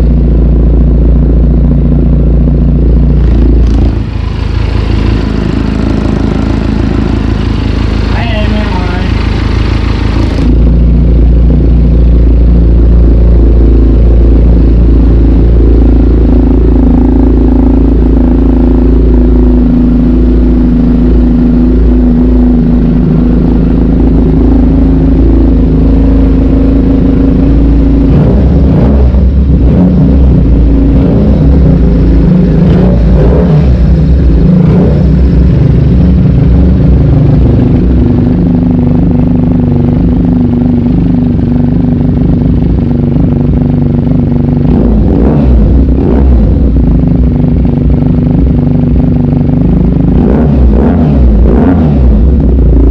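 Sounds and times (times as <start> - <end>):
motorcycle engine idling: 0.0 - 52.9
motorcycle engine revving: 0.0 - 52.9.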